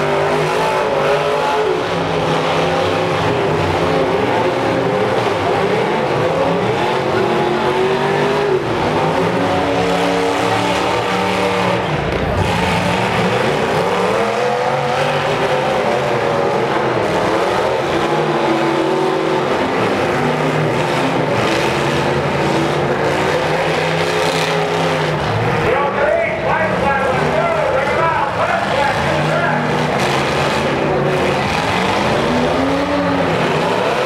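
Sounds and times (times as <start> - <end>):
car engines revving hard: 0.0 - 34.0.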